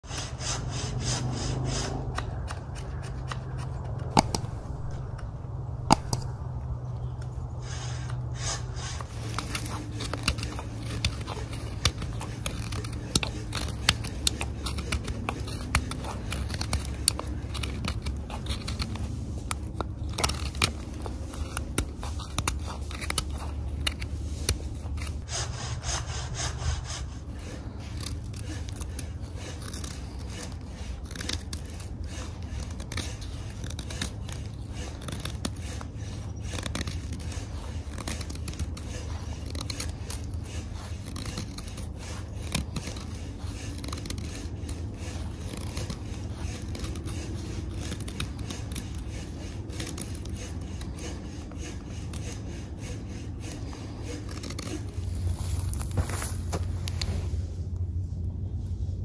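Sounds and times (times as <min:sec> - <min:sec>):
knife shaving wood: 0:00.0 - 0:59.0
steady low rumble: 0:00.0 - 0:59.0.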